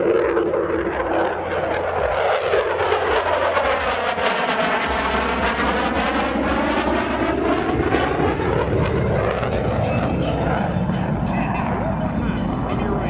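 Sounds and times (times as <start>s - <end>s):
fighter jet flying by: 0.0s - 13.0s.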